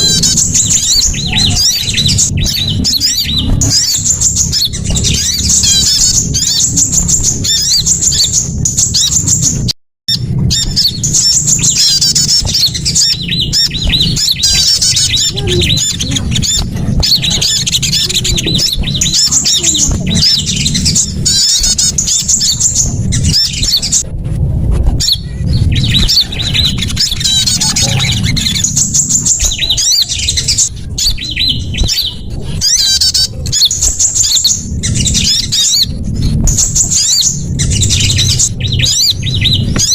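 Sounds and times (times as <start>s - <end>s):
small songbirds chirping: 0.0s - 24.1s, 25.0s - 39.9s
steady low rumble: 0.0s - 39.9s.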